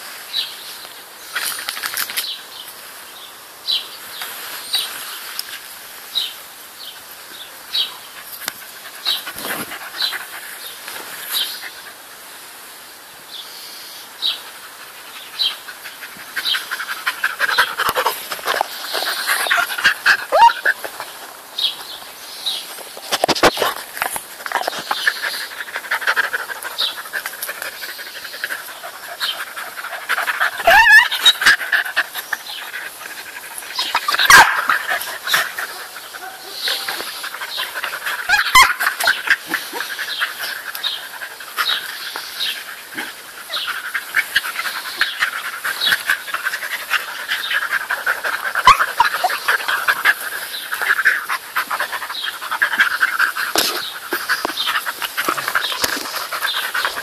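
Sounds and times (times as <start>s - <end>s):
dogs panting: 7.8s - 12.3s, 14.4s - 57.0s.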